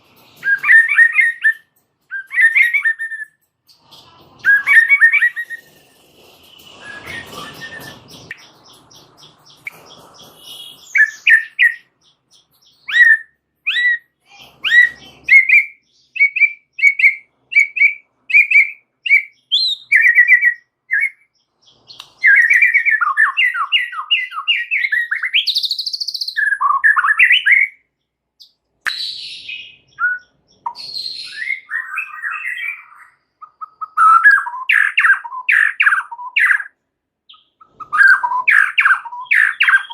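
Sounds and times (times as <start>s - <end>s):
bird singing whistled notes: 0.3s - 39.9s.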